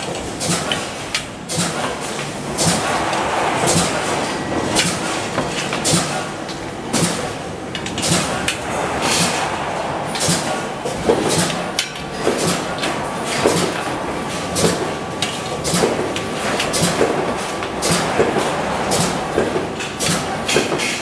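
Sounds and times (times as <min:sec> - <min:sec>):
steady machinery noise: 0:00.0 - 0:21.0.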